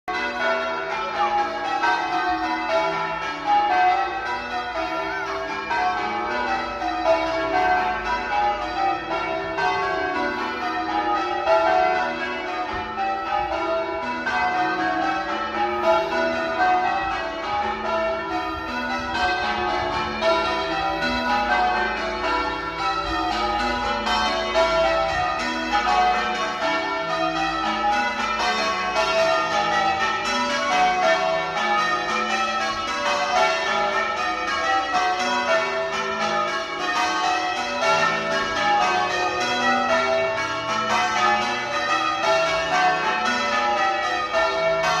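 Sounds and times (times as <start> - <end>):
church bells pealing: 0.1 - 45.0.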